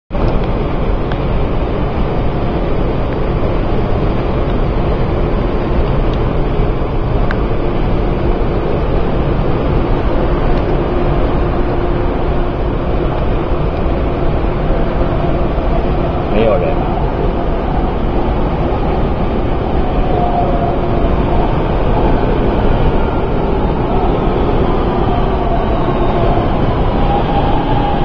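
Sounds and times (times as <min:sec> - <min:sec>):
train rumbling: 0:00.1 - 0:28.0.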